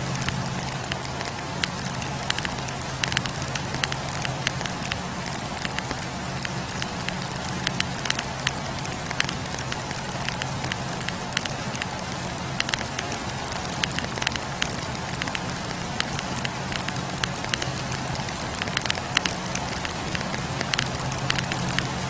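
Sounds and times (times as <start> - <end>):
fire hiss and rumble: 0.0 - 22.0
wood fire crackling: 0.0 - 22.0.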